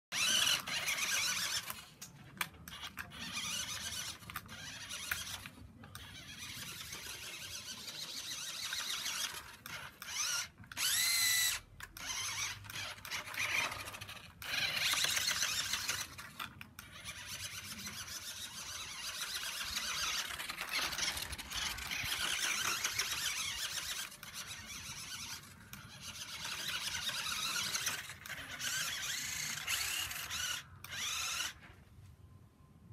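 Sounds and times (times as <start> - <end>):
toy car electric motor whining: 0.1 - 31.8.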